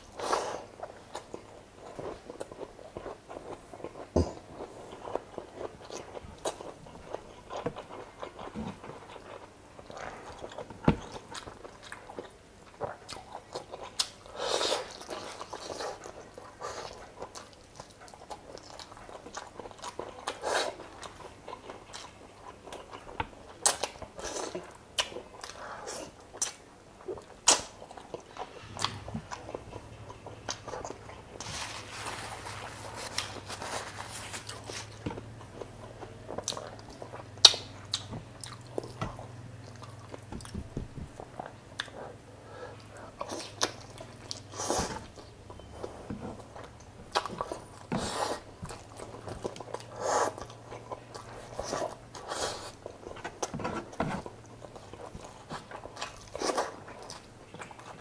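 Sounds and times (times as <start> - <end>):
person chewing with wet mouth: 0.0 - 58.0.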